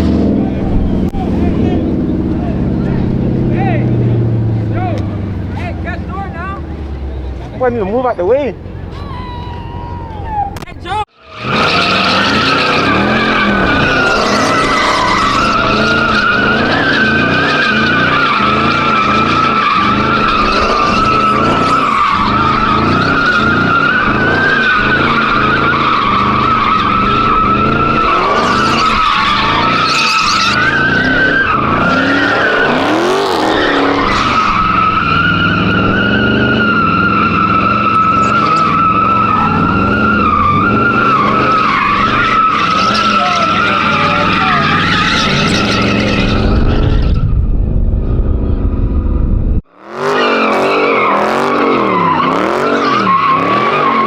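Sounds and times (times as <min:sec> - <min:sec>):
car engine at high revs: 0:00.0 - 0:54.0
tyres squealing: 0:00.6 - 0:47.2.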